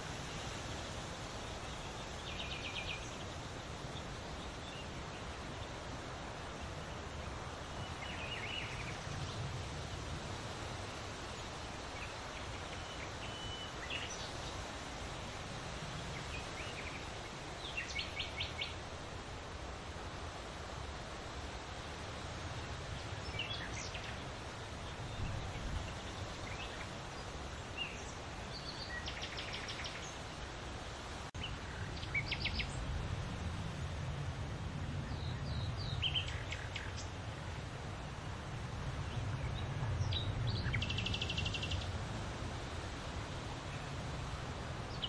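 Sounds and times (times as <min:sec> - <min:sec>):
leaves rustling in wind: 0:00.0 - 0:45.0
low wind rumble: 0:00.0 - 0:45.0.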